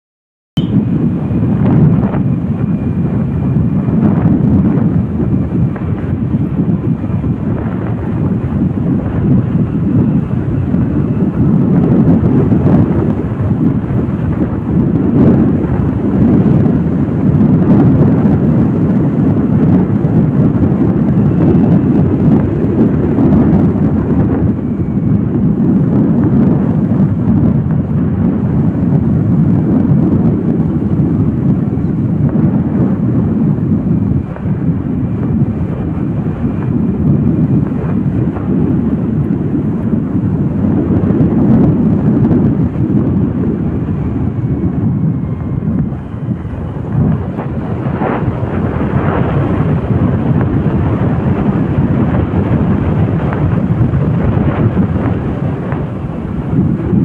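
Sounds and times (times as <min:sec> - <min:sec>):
motorbike road noise: 0:00.6 - 0:57.0
wind buffeting microphone: 0:00.6 - 0:57.0.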